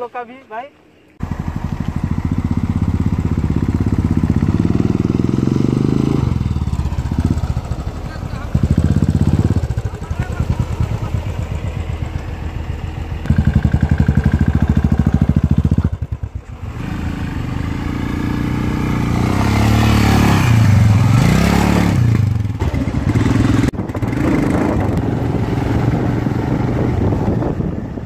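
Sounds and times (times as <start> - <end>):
motorcycle engines revving: 1.1 - 28.0.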